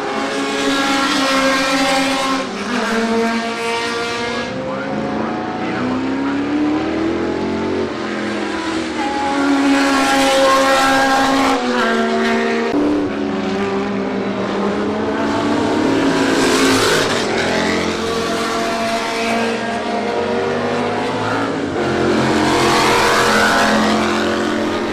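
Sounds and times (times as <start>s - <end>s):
racing car engines shifting gears: 0.0s - 24.9s.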